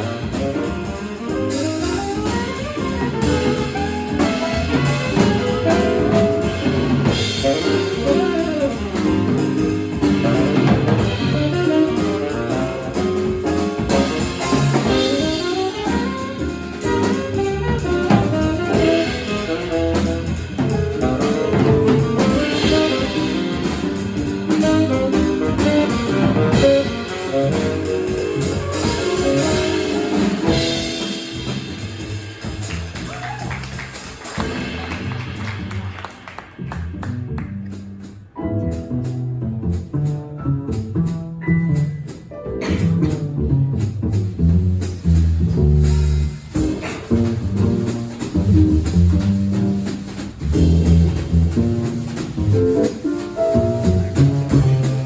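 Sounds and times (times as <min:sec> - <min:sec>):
jazz quartet playing: 0:00.0 - 0:55.0.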